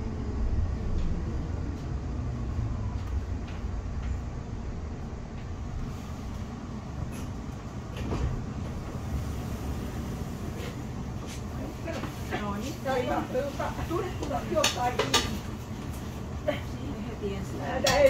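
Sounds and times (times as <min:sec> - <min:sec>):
tram rumble and hum: 0:00.0 - 0:18.0.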